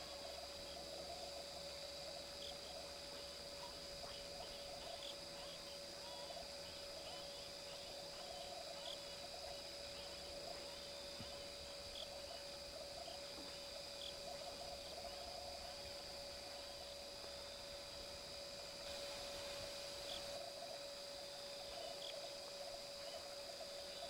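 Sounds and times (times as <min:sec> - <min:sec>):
night insects chirping: 0:00.0 - 0:24.0.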